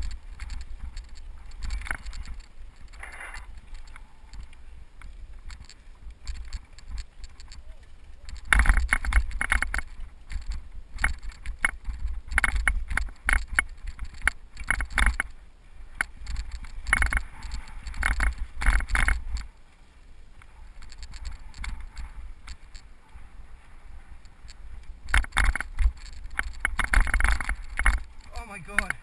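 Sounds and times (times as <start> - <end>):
bike rattling over rocky trail: 0.0 - 29.0
wind rumble on microphone: 0.0 - 29.0.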